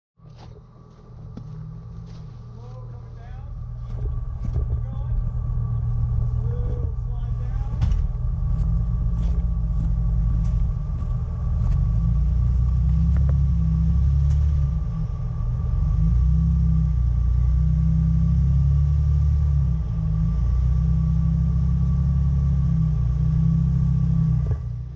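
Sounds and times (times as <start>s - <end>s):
car engine low rumble: 0.2s - 24.9s.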